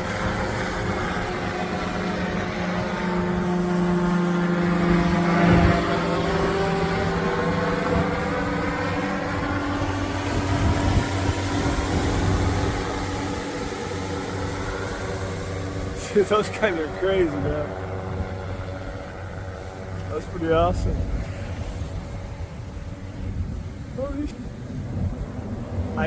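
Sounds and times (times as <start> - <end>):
low-flying aircraft engine drone: 0.0 - 26.0.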